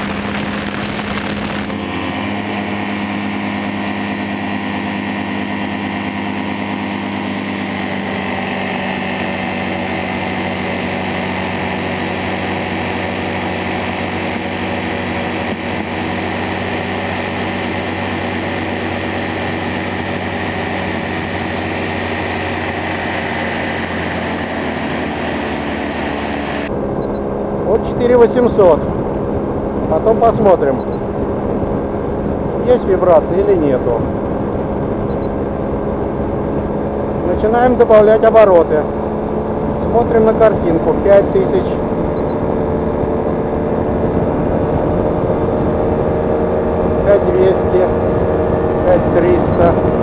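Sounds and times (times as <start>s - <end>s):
hang glider engine and propeller: 0.0s - 50.0s.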